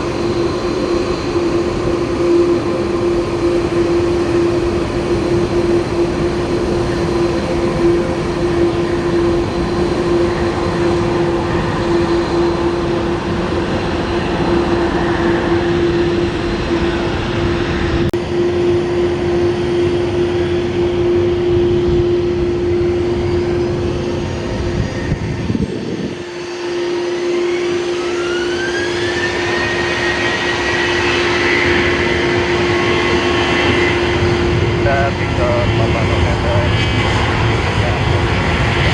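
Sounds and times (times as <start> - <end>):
jet engines rushing and humming: 0.0 - 38.9
rising whine: 0.0 - 38.9.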